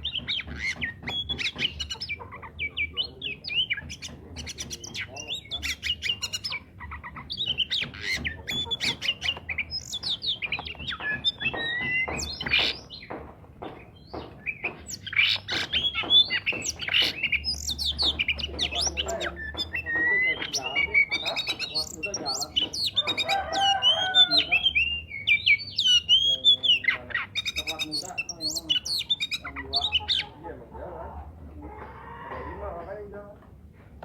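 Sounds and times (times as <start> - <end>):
magpie-robin singing: 0.0 - 30.7.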